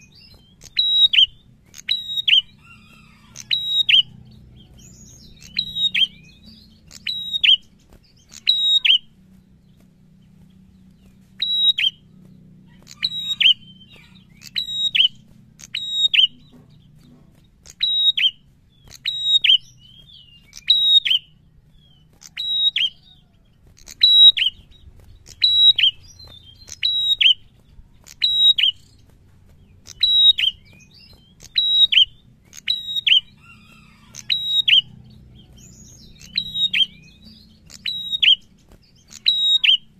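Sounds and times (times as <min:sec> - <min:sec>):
bird calling sharp notes: 0:00.0 - 0:10.4, 0:11.0 - 0:39.9.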